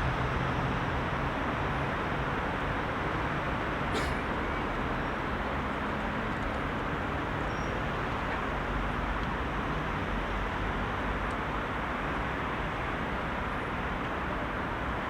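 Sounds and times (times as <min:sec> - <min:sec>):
heavy city traffic drone: 0:00.0 - 0:15.0.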